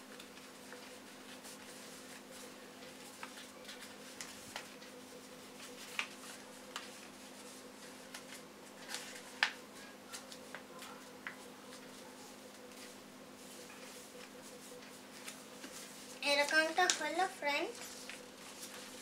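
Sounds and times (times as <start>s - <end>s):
faint steady hum: 0.0s - 19.0s
paper crackling and rustling: 0.0s - 19.0s.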